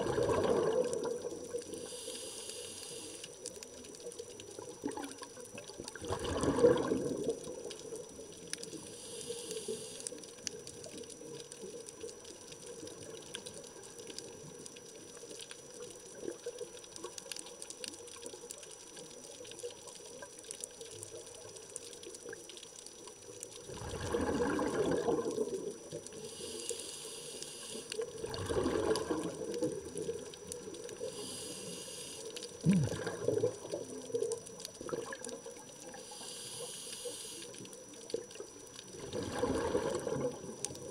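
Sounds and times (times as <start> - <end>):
underwater bubbles burbling: 0.0 - 2.0, 3.3 - 26.5, 27.9 - 36.8, 37.4 - 40.9
faint steady crackle: 0.0 - 40.9.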